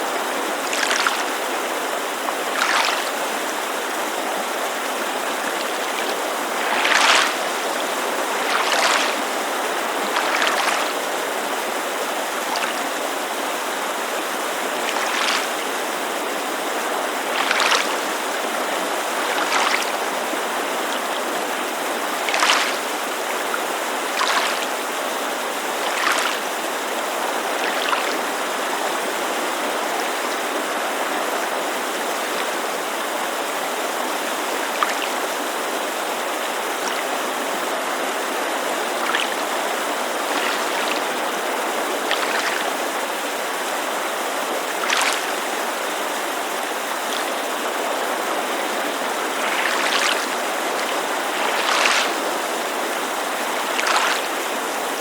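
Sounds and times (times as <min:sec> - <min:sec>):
creek rushing: 0:00.0 - 0:55.0
waves lapping on shore: 0:00.0 - 0:55.0.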